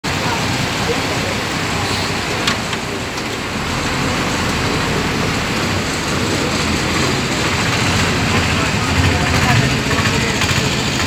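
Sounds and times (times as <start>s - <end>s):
seawater rushing into street: 0.0s - 11.0s.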